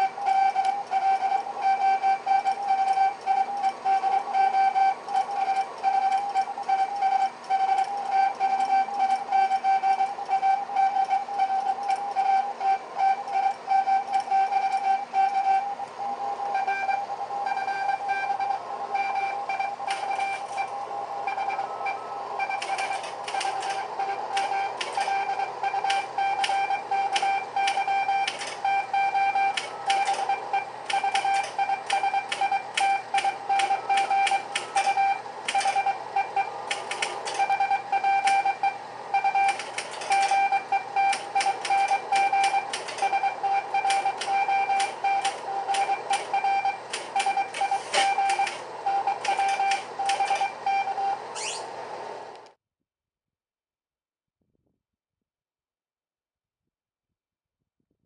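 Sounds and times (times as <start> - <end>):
morse code tone beeping: 0.0 - 51.6.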